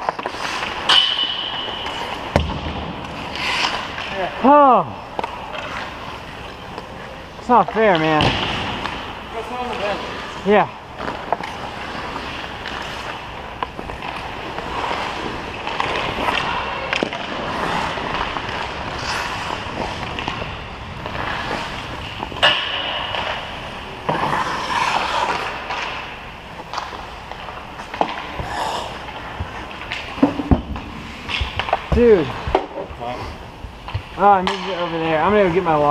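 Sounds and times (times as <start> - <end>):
skate blades scraping on ice: 0.0 - 34.3.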